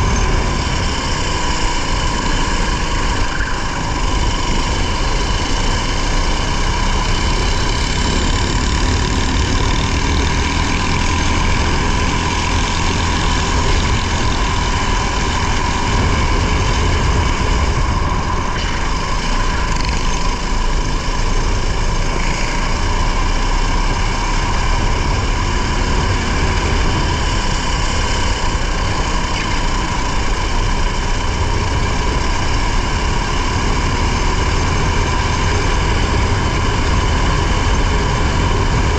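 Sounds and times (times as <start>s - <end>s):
racing car engine: 0.0s - 38.9s
road noise: 0.0s - 38.9s.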